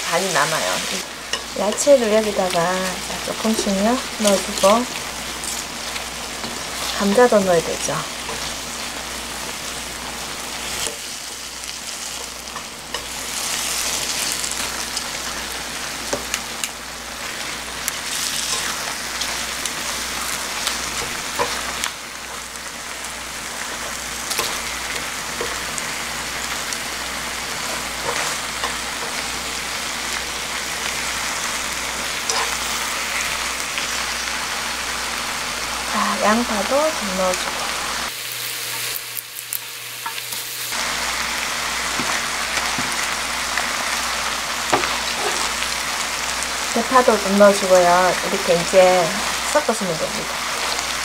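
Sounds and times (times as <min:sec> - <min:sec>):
chicken sizzling in a wok: 0:00.0 - 0:51.0.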